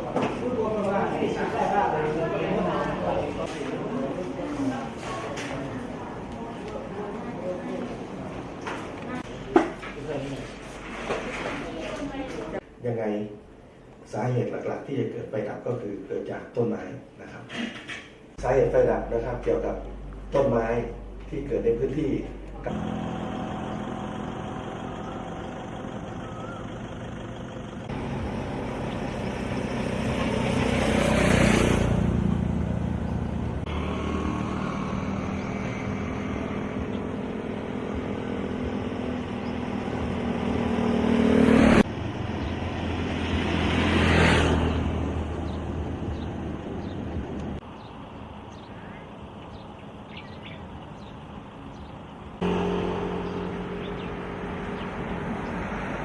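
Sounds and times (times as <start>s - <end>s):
vehicles passing: 0.0s - 12.6s, 17.8s - 56.0s.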